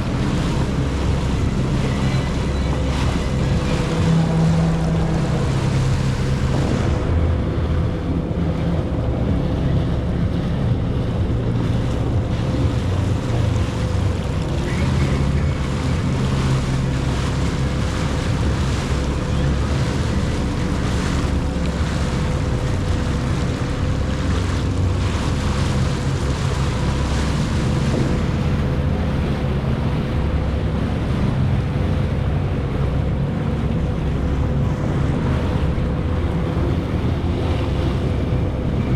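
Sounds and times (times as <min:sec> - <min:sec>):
jet ski engine drone: 0:00.0 - 0:38.9
water rushing past hull: 0:00.0 - 0:38.9
wind buffeting microphone: 0:00.0 - 0:38.9.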